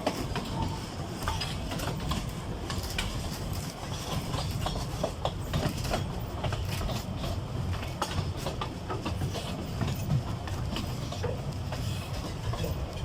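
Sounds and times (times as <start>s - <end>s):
train running with low rumble: 0.0s - 13.0s
wheels clicking over rail joints: 0.0s - 13.0s.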